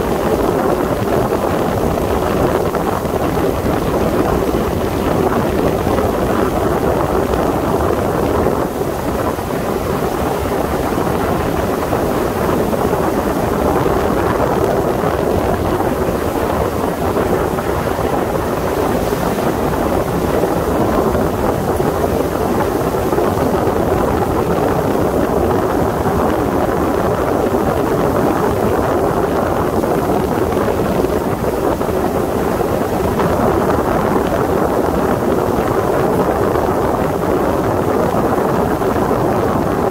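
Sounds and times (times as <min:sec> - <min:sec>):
motorboat running: 0:00.0 - 0:39.9
wind on microphone: 0:00.0 - 0:39.9.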